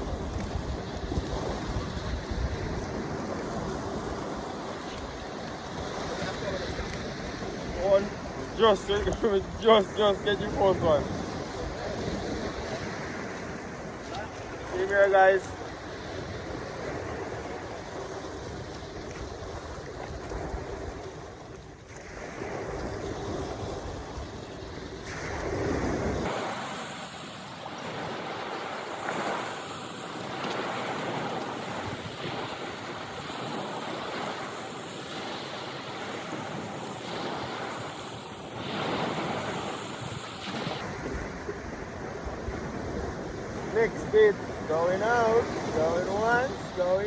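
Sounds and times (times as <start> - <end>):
waves washing in: 0.0 - 47.0
wind on microphone: 0.0 - 47.0.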